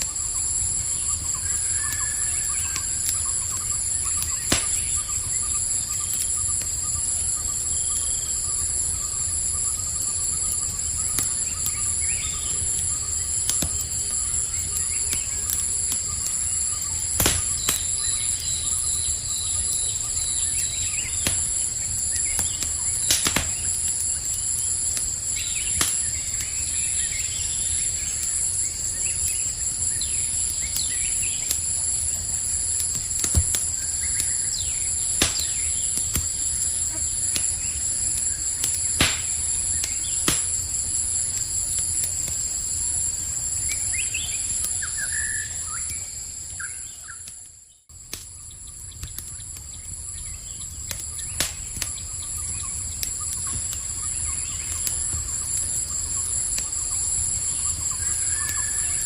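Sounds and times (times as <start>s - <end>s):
campfire crackling and popping: 0.0s - 59.0s
night insects chorus: 0.0s - 59.0s.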